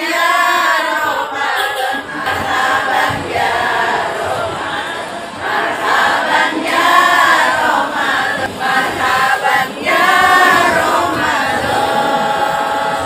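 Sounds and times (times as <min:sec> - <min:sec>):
women's choir singing: 0:00.0 - 0:13.0.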